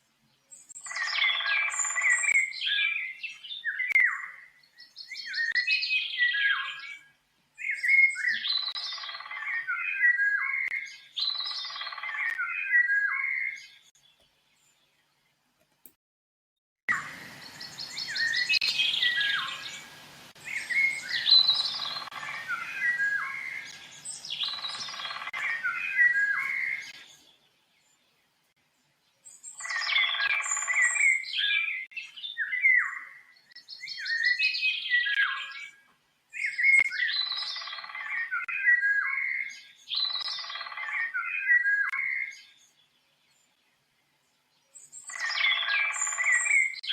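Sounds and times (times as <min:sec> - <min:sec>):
songbird whistling and trilling: 0:00.6 - 0:13.9, 0:16.9 - 0:27.2, 0:29.2 - 0:42.8, 0:44.7 - 0:46.9.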